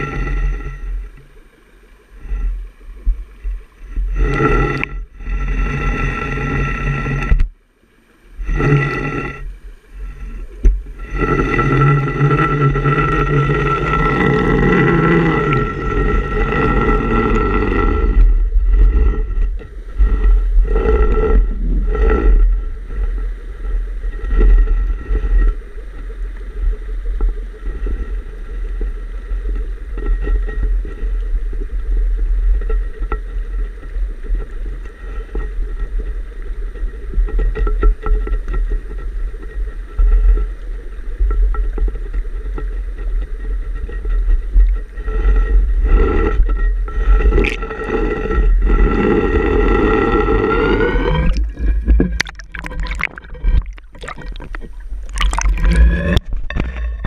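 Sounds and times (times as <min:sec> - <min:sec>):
muffled underwater rumble: 0:00.0 - 0:57.0
steady multi-tone hum: 0:00.0 - 0:57.0.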